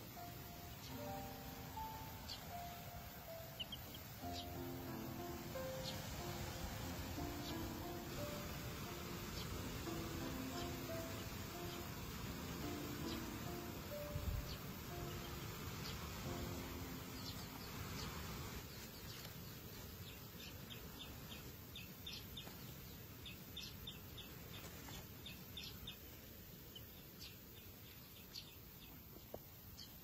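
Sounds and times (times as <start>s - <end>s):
steady background hiss: 0.0s - 30.0s
chick peeping: 0.6s - 30.0s.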